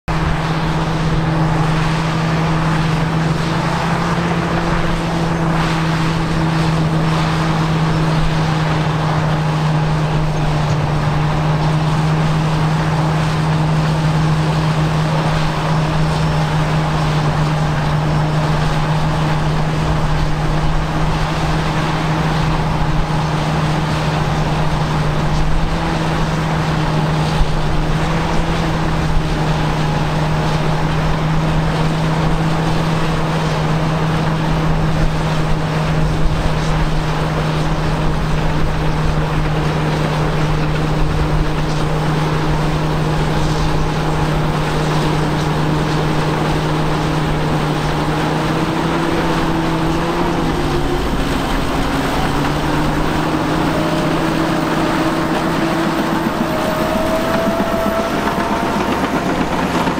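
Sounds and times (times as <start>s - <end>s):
bulldozer diesel engines droning: 0.1s - 59.9s
machines working: 0.1s - 59.9s.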